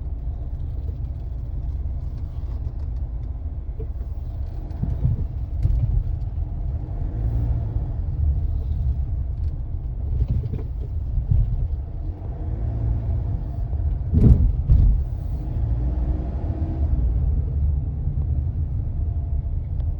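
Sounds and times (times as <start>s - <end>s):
road rumble inside car: 0.0s - 19.9s.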